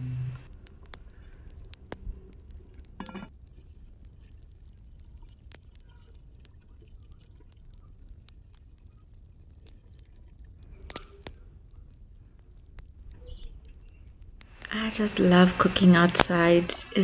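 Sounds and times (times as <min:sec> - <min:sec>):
small clicks: 0:00.3 - 0:14.8
hot water pouring and splashing: 0:00.4 - 0:14.6.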